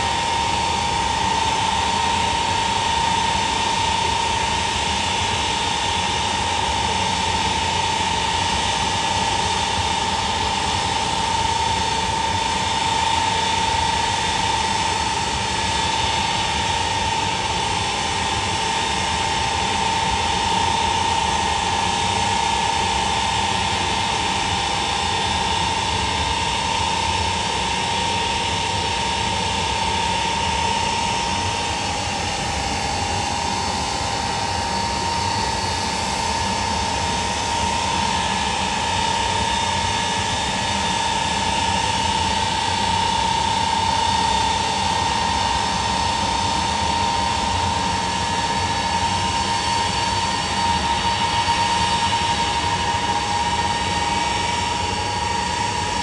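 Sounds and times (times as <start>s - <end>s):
high whine over rush: 0.0s - 56.0s
jet engines running: 0.0s - 56.0s.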